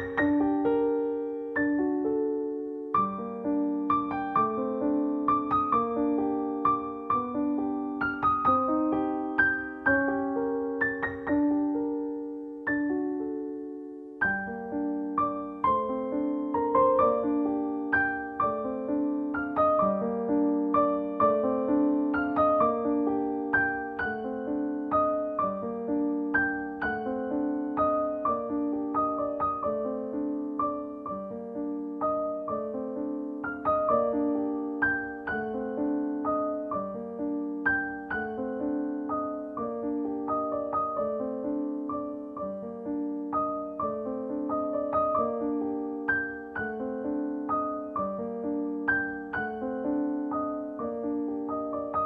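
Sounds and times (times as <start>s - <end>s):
background piano music: 0.0s - 52.0s.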